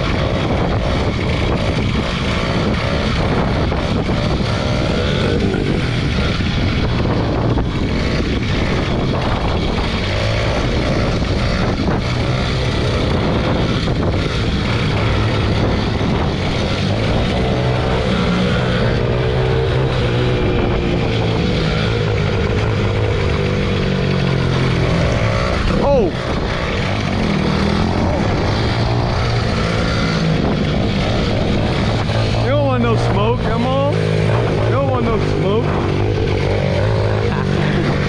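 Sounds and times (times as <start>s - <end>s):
small motorbike engine running: 0.0s - 38.0s
wind rush on microphone: 0.0s - 38.0s.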